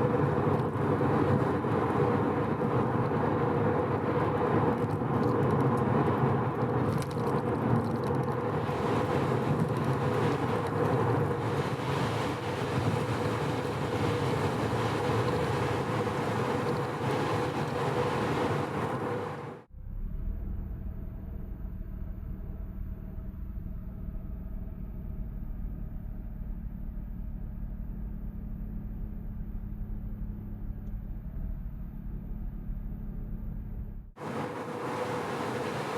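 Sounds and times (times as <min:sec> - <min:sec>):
road and tyre noise: 0:00.0 - 0:35.9.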